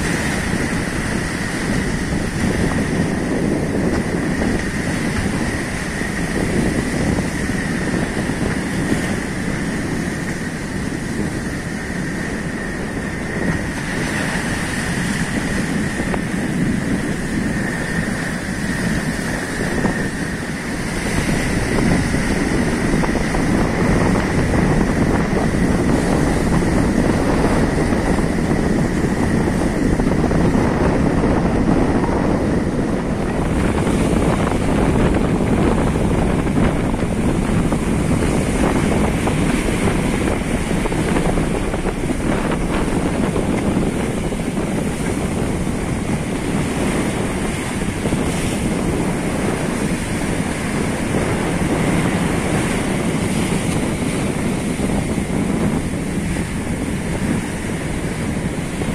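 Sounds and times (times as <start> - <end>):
ocean surf breaking on rocks: 0.0 - 58.9
wind buffeting microphone: 0.0 - 58.9.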